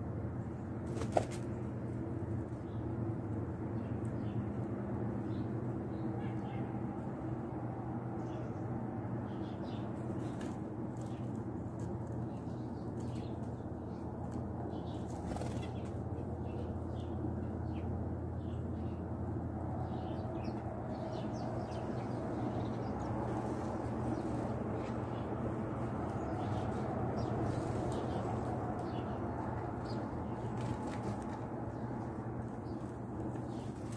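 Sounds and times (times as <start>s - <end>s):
low hum and rumble: 0.0s - 33.9s.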